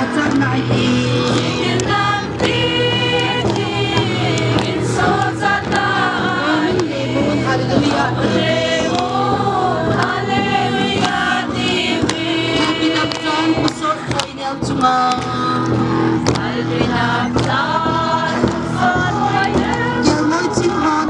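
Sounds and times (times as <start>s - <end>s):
women singing a hymn: 0.6s - 21.0s.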